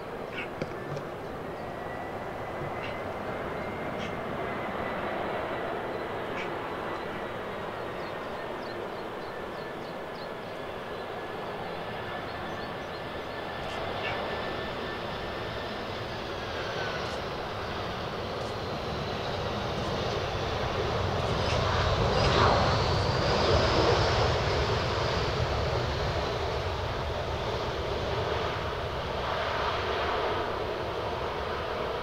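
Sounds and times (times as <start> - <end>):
high jet whine: 0.0 - 32.0
jet engine rumble: 0.0 - 32.0.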